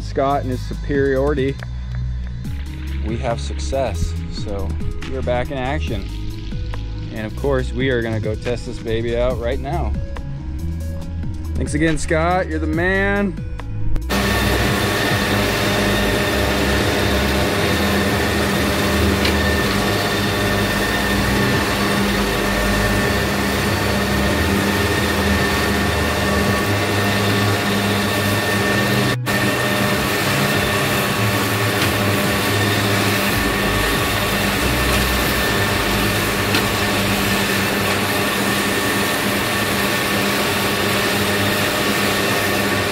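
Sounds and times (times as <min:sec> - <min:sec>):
tractor engine drone: 0:00.0 - 0:09.9, 0:14.0 - 0:42.9
mower constant whine: 0:02.6 - 0:10.0, 0:14.1 - 0:42.9.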